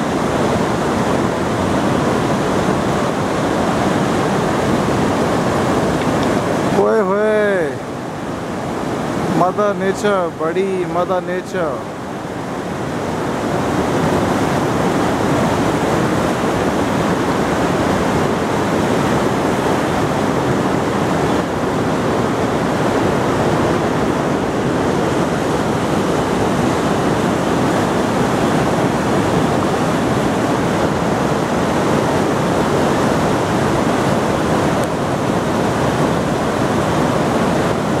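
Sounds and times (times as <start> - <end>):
river rushing over stones: 0.0 - 38.0.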